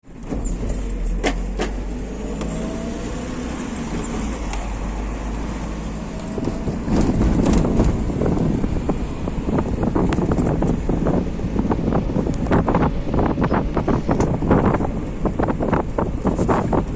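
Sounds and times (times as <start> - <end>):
airliner cabin rumble: 3.0 - 16.9.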